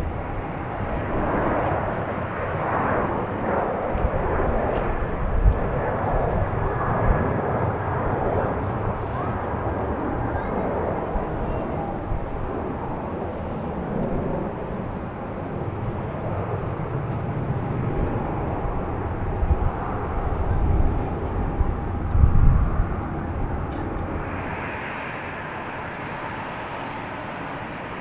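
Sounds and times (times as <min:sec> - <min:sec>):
jet engine rushing with whine: 0:00.0 - 0:28.0
wind buffeting microphone: 0:00.0 - 0:28.0.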